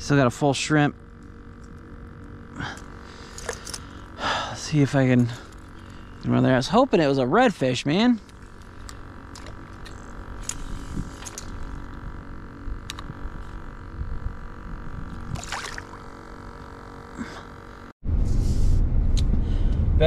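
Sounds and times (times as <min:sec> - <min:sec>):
level hum: 0:00.0 - 0:19.6.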